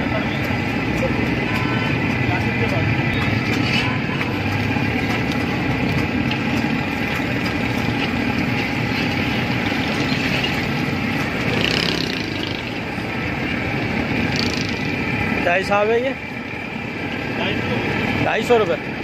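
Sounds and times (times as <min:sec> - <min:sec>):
fish deep-frying in oil: 0:00.0 - 0:15.8
street traffic: 0:00.0 - 0:19.0.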